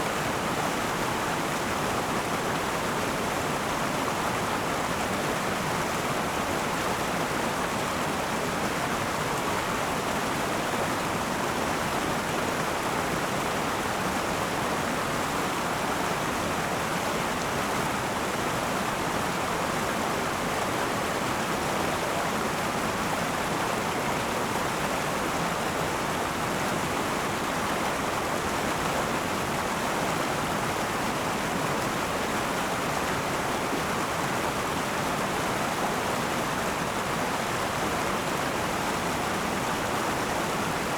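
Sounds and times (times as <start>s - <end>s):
river rushing over rocks: 0.0s - 40.9s.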